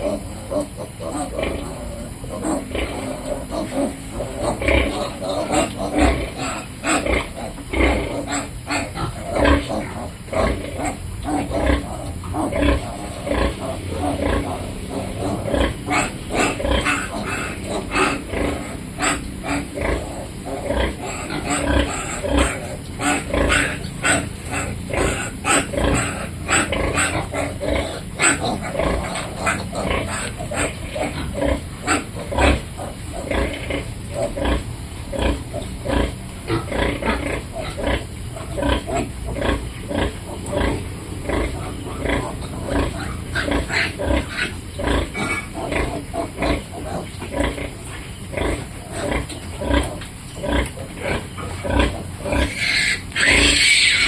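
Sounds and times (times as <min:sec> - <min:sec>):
piglets grunting and squealing: 0:00.0 - 0:54.0.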